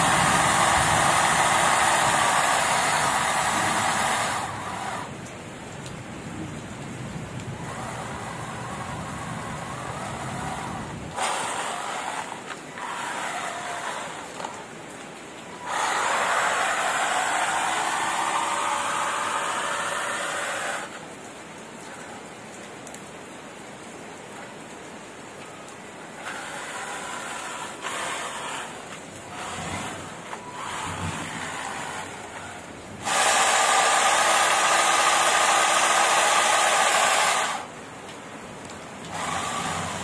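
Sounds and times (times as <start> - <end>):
small electric motors whining: 0.0 - 5.4, 7.3 - 21.2, 25.4 - 37.8, 39.0 - 40.0
rain hissing: 0.0 - 40.0.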